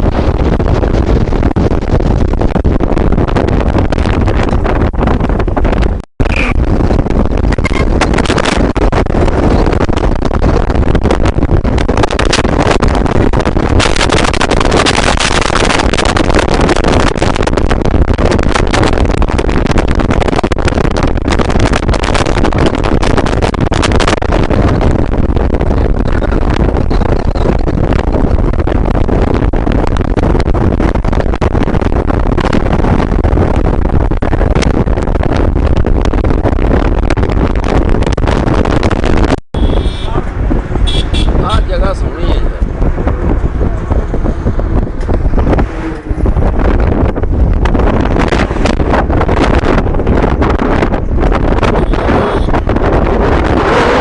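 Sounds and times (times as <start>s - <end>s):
moving vehicle running: 0.0s - 54.0s
wind buffeting microphone: 0.0s - 54.0s.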